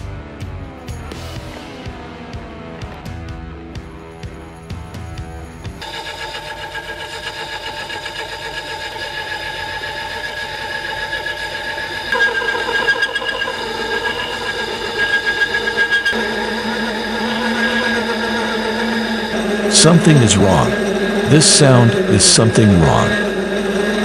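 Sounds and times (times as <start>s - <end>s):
lathe spindle whine: 4.4s - 24.0s.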